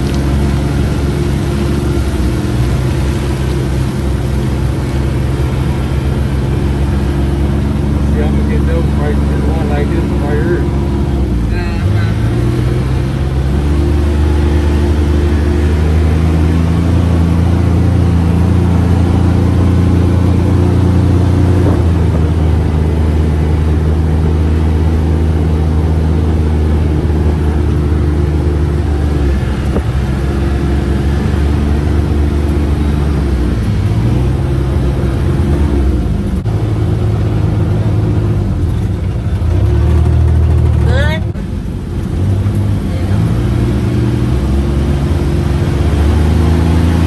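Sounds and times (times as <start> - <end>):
utility vehicle engine running: 0.0 - 47.0.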